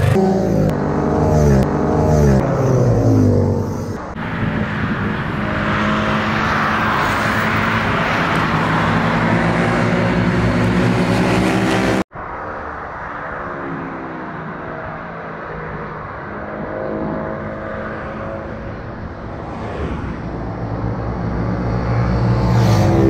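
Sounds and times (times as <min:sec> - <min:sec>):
motorcycles passing: 0:00.0 - 0:23.0.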